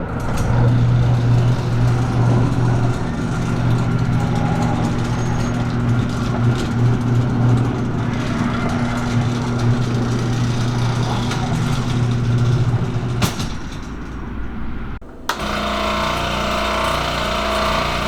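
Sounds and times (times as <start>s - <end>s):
machine motor humming: 0.0s - 18.0s.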